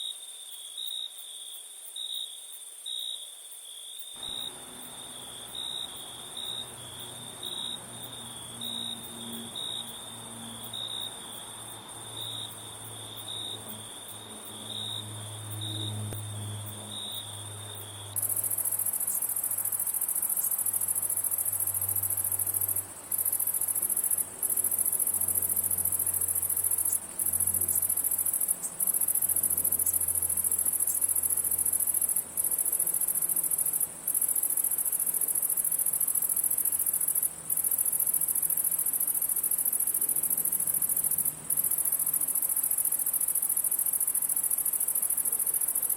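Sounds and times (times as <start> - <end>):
crickets chirping: 0.0 - 45.9
high continuous insect trill: 0.0 - 45.9
loud high-pitched insect trill: 0.0 - 45.9.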